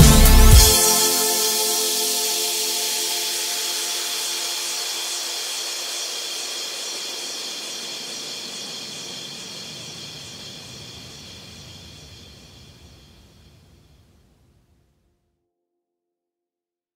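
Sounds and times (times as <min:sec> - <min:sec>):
synth white noise hiss: 0:00.0 - 0:14.9.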